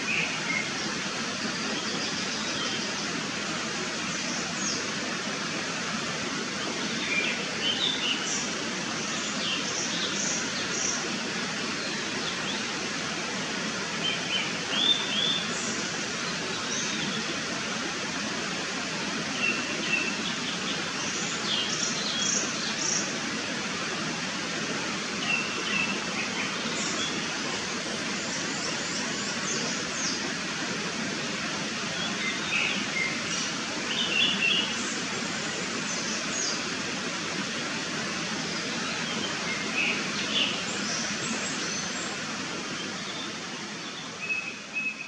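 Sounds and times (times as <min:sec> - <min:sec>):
steady background hiss: 0:00.0 - 0:45.0.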